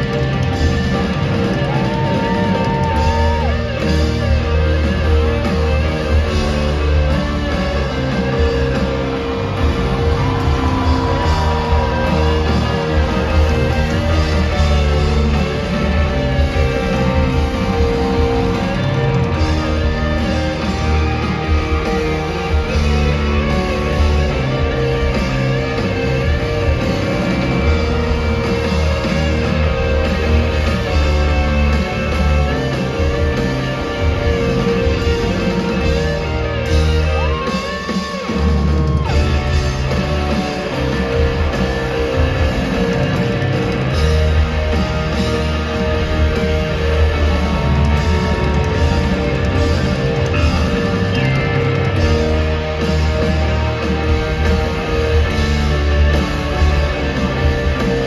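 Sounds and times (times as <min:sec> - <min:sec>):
electric guitar: 0:00.0 - 0:58.0
rock band playing live: 0:00.0 - 0:58.0.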